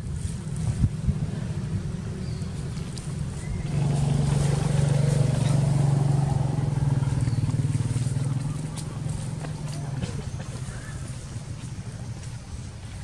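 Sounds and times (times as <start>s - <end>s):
engine running: 0.0s - 13.0s
low wind rumble: 0.0s - 13.0s.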